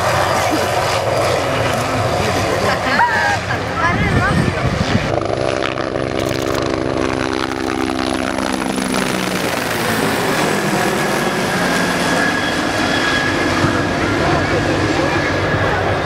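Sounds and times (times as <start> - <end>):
helicopter rotor noise: 0.0 - 16.0
high turbine whine: 0.0 - 16.0.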